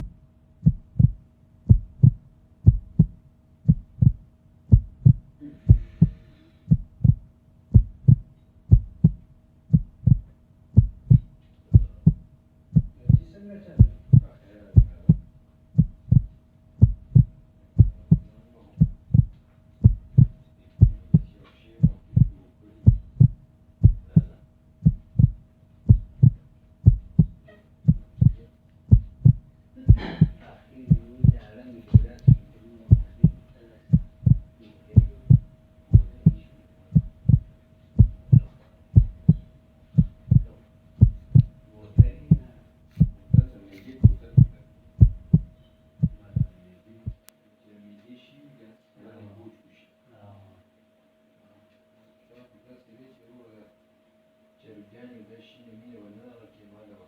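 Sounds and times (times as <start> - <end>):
heartbeat double thump: 0.0 - 47.3
faint steady hum: 0.0 - 57.0.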